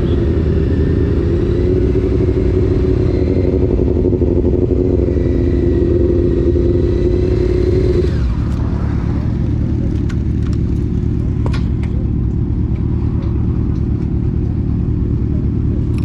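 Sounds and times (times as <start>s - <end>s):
motorcycle engine revving then slowing: 0.0s - 14.4s.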